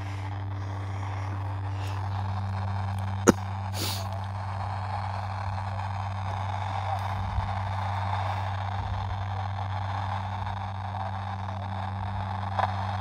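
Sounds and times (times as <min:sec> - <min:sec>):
low hum: 0:00.0 - 0:13.0
tv static hiss: 0:00.0 - 0:13.0.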